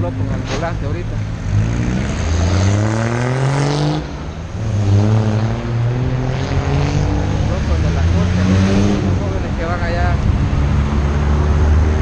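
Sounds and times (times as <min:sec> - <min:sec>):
vehicle engine accelerating hard: 0:00.0 - 0:12.0.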